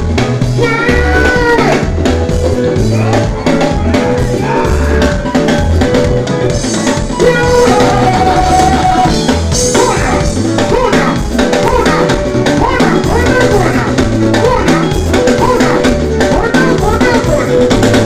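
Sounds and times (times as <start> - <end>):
drum and bass music: 0.0 - 18.0
person singing: 0.5 - 1.9, 2.6 - 5.4, 7.1 - 18.0.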